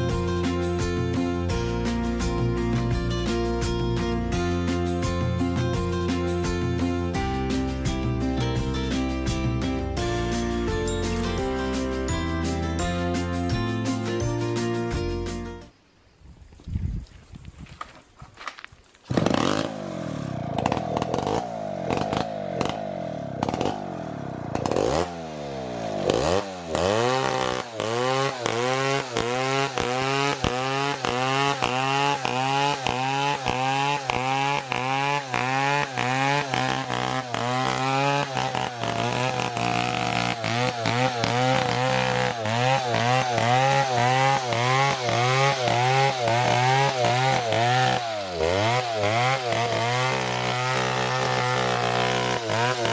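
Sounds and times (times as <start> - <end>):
chainsaw cutting wood: 0.0 - 14.4, 18.4 - 52.9.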